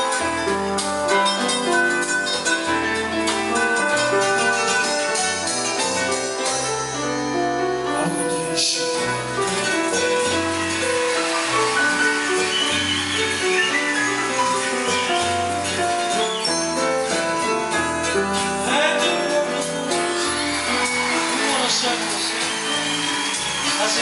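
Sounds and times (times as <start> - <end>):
electronic keyboard playing: 0.0 - 24.0.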